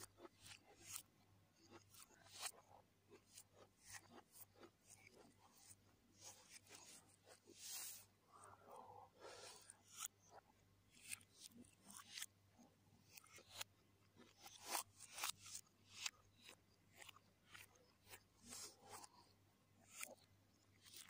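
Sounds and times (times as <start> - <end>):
faint low hum: 0.0 - 21.0
wet chewing and crunching: 0.1 - 7.1, 9.8 - 21.0.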